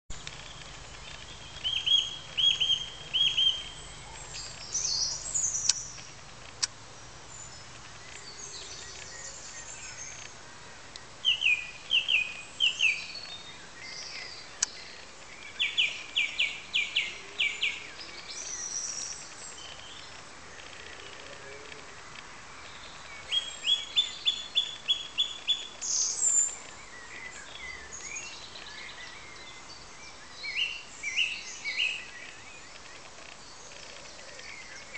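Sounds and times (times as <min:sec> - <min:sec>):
outdoor background hiss: 0:00.1 - 0:34.9
songbirds singing: 0:00.1 - 0:34.9.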